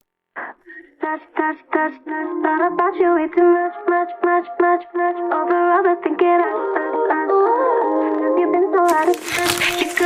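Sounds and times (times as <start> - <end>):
person singing pop vocals: 0.4 - 10.0.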